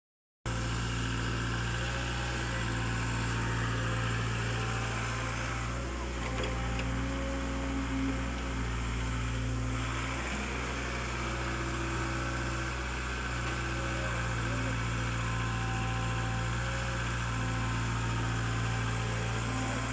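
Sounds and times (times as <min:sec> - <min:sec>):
excavator diesel engine running: 0:00.5 - 0:19.9.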